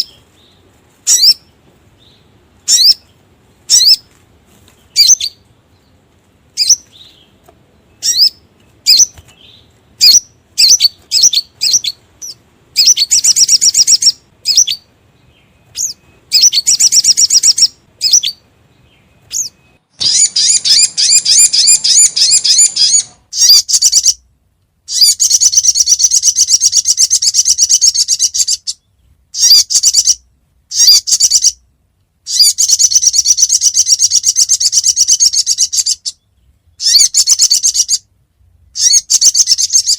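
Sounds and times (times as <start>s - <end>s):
sunbird chirps and trills: 0.0s - 24.2s, 24.8s - 39.9s.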